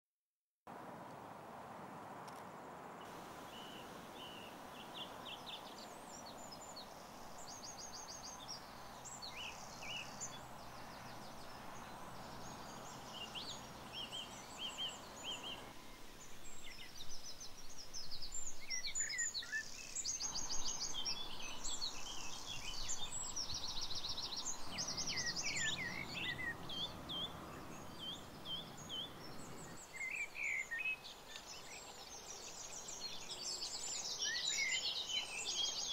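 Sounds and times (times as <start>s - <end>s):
outdoor background hiss: 0.7s - 35.9s
birds singing and chirping: 3.5s - 35.9s.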